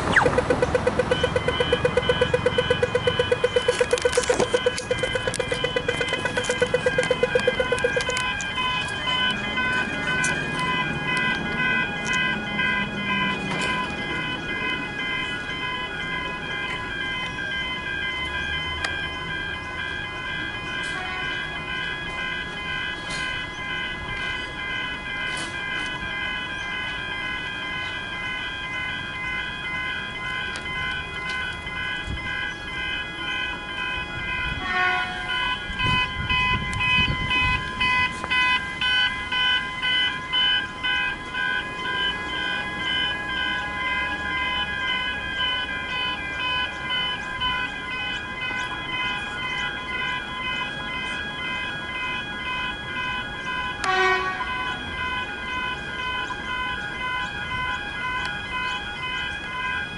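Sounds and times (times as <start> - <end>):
level crossing warning bells: 0.0 - 59.9.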